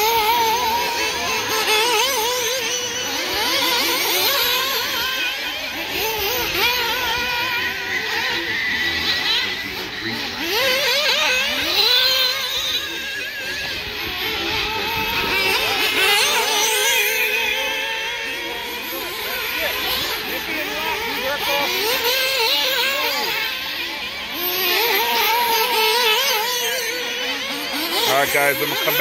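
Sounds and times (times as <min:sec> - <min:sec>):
rc car engines revving: 0:00.0 - 0:29.0.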